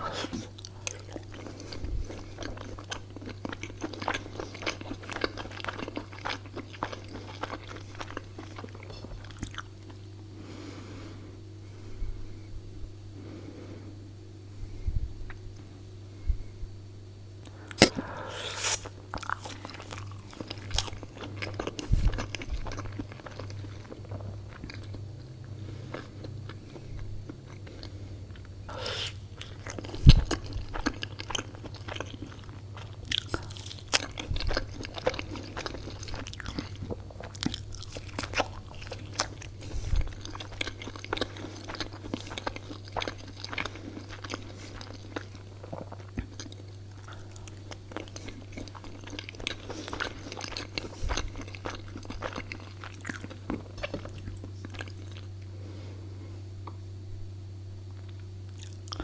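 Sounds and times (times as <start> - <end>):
person chewing and crunching: 0.0 - 10.1, 17.4 - 55.7, 57.9 - 59.0
low hum: 7.9 - 58.6.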